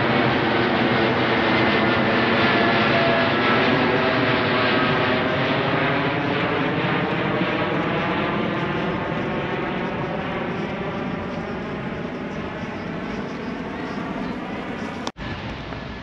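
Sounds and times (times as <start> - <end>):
jet engine noise overhead: 0.0 - 16.0.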